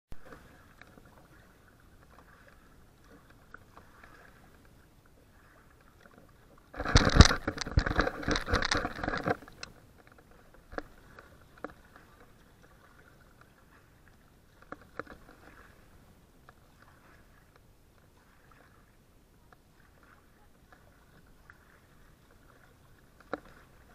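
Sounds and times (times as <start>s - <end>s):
water patter: 0.2s - 23.9s.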